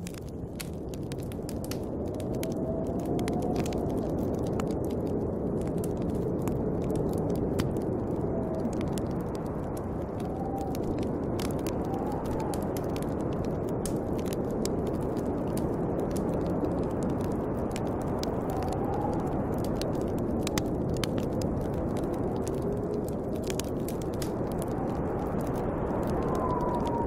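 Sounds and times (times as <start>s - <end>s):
wind blowing with whistling: 0.0s - 27.0s
wood fire crackling: 0.0s - 27.0s.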